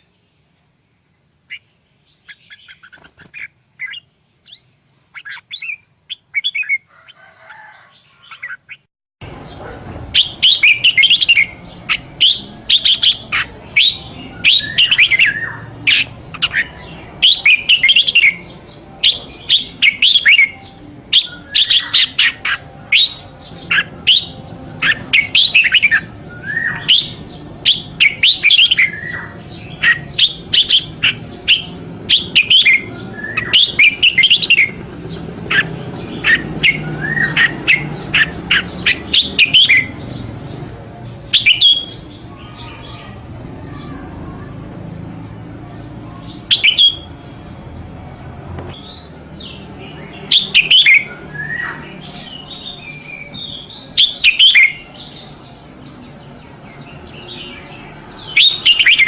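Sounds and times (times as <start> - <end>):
bird singing warbled phrases: 0.0 - 59.0.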